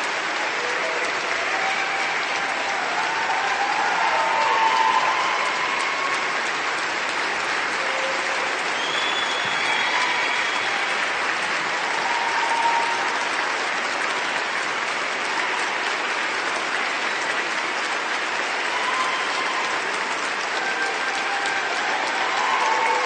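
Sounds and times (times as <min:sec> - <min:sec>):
crowd applauding: 0:00.0 - 0:23.0
faint crowd voices: 0:00.0 - 0:23.0.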